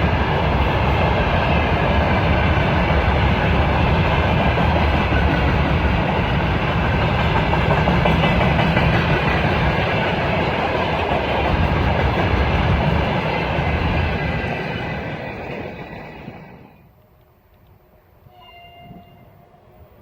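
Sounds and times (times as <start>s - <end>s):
rail joints clickety-clack: 0.0s - 19.9s
train wheels rumbling on rails: 0.0s - 20.0s.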